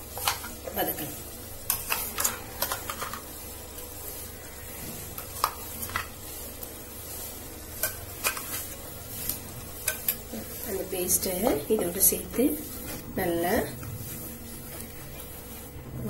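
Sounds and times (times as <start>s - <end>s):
paste sizzling in oil: 0.0s - 15.9s.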